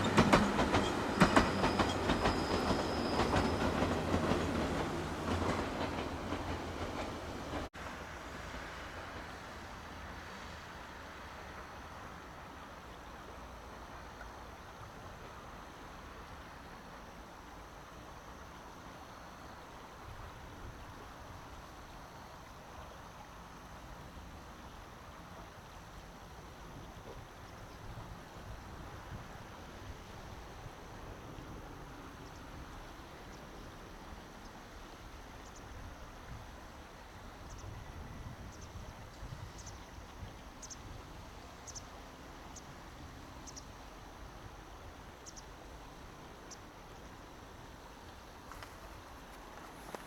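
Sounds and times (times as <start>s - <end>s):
distant electric train rumbling: 0.0s - 50.0s.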